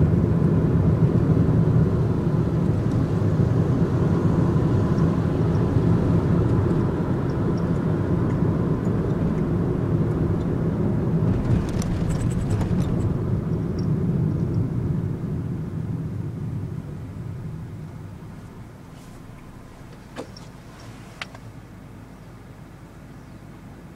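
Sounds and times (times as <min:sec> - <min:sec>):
van engine and road rumble: 0:00.0 - 0:23.9.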